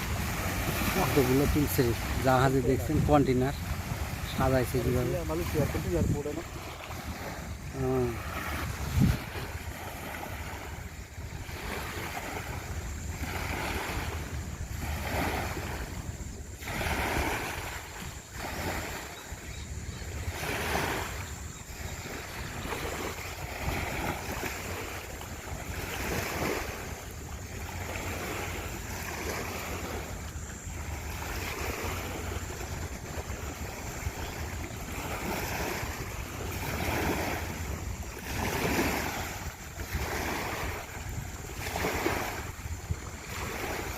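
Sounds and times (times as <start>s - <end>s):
water splashing against boat hull: 0.0s - 19.2s, 21.9s - 43.9s
wind buffeting microphone: 0.0s - 43.9s.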